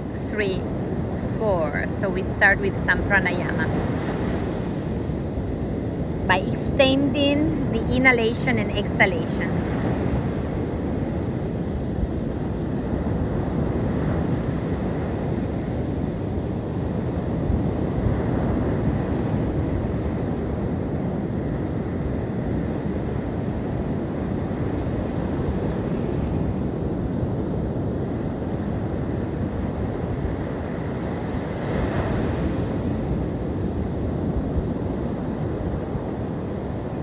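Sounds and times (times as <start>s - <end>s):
surf washing onto beach: 0.0s - 37.0s
wind buffeting microphone: 0.0s - 37.0s.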